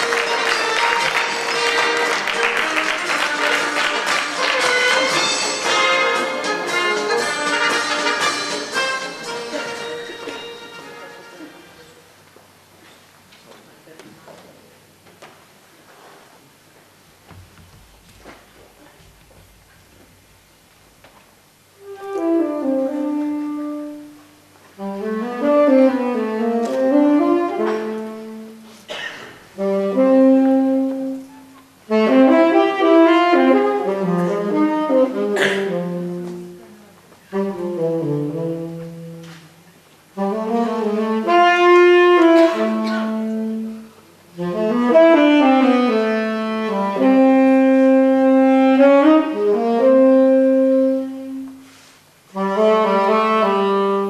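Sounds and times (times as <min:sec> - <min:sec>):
solo saxophone melody: 0:00.0 - 0:11.9, 0:21.7 - 0:28.9, 0:29.5 - 0:54.0.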